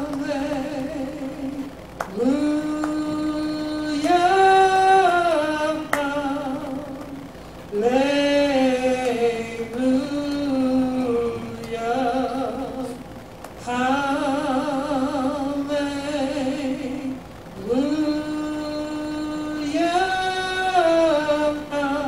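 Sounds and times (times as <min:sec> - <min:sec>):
person singing gospel unaccompanied: 0:00.0 - 0:22.0.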